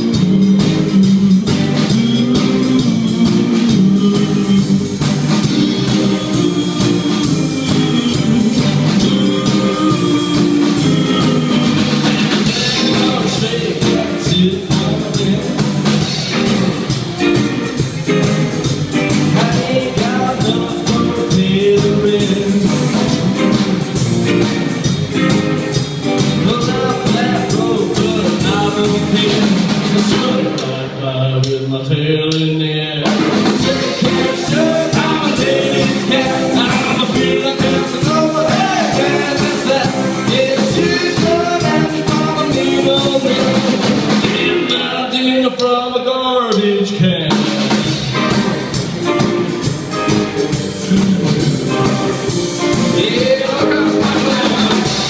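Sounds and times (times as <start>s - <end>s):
slapped upright bass: 0.0s - 30.8s, 32.3s - 45.0s, 47.1s - 55.0s
electric guitar: 0.0s - 31.6s, 33.0s - 45.2s, 47.0s - 55.0s
drum kit: 0.0s - 31.7s, 32.3s - 55.0s.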